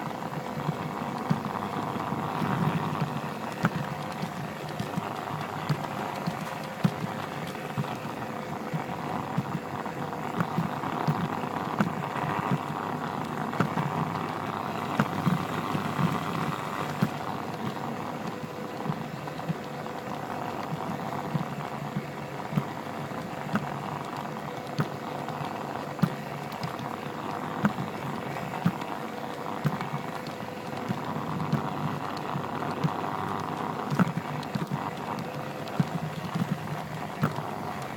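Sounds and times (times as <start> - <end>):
model train wheels and motor rumbling: 0.0 - 37.9.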